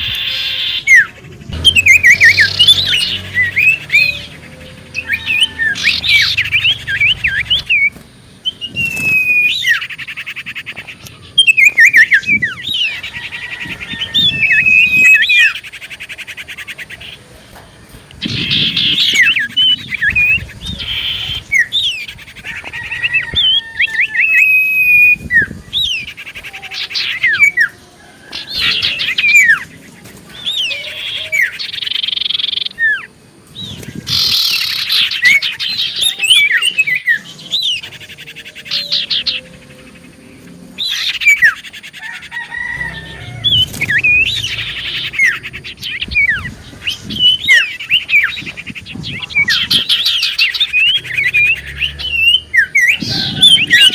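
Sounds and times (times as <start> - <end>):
bird chirps trills and whistles: 0.0 - 53.9.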